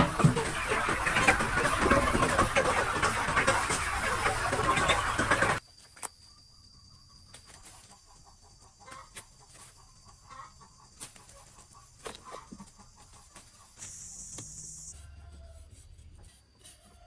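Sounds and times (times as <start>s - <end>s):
chickens clucking: 0.0s - 5.6s, 6.3s - 15.5s.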